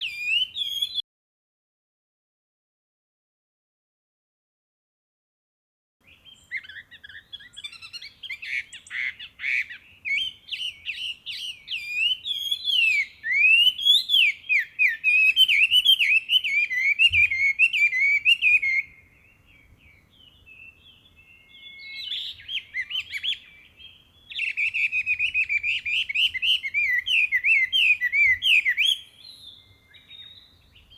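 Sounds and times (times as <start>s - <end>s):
bird singing whistled phrases: 0.0s - 1.0s, 6.1s - 30.9s.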